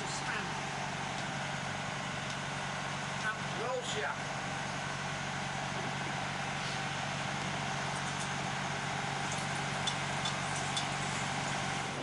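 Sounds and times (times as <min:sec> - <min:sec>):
boat engine hum: 0:00.0 - 0:12.0.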